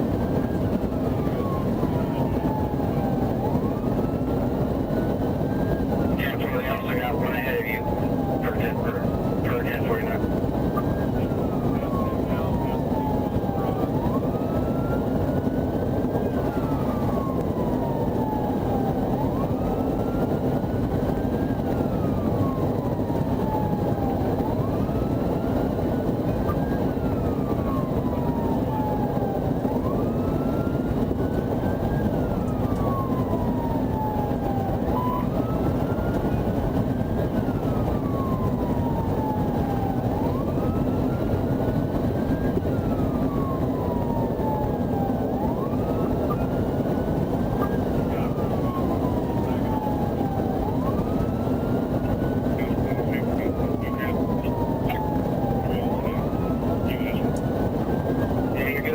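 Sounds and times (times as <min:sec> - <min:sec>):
engine and road noise: 0:00.0 - 0:58.9
police siren wailing: 0:00.0 - 0:58.9.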